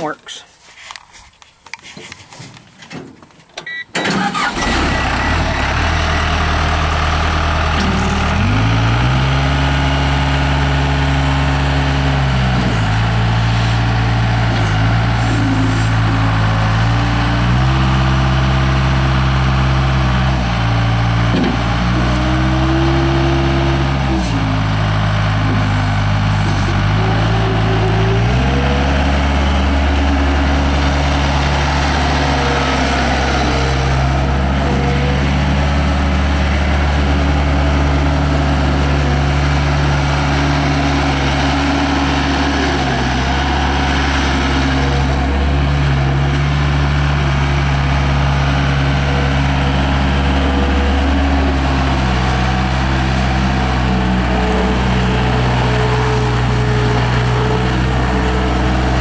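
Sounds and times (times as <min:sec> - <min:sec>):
diesel engine running: 0:03.7 - 0:59.0.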